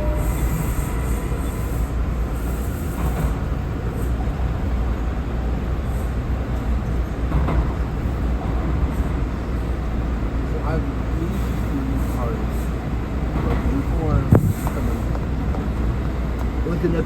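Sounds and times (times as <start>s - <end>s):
subway car rumbling on track: 0.0s - 17.0s.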